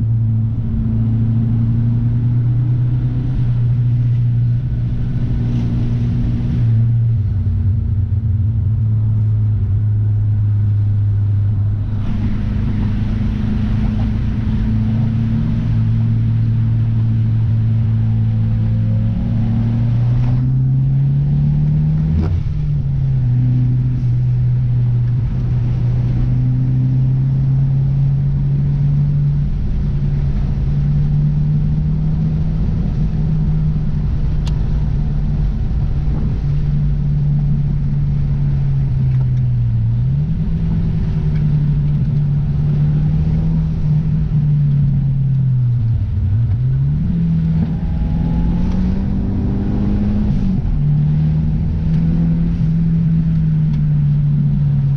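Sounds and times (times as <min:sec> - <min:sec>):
car engine drone: 0:00.0 - 0:54.9
road noise: 0:00.0 - 0:54.9.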